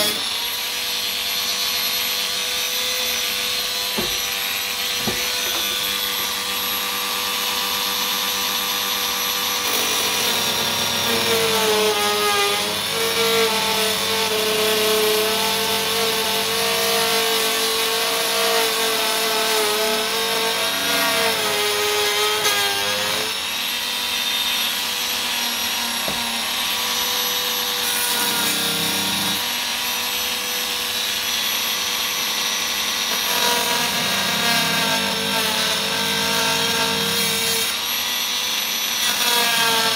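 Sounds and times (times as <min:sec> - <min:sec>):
rotary tool cutting plastic whine: 0:00.0 - 0:39.9.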